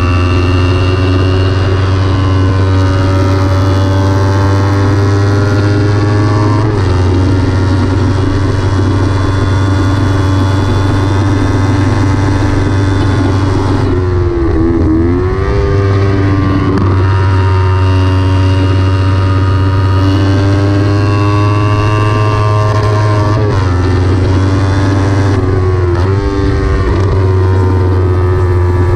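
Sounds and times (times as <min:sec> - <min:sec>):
motorcycle engine revving high: 0:00.0 - 0:28.9.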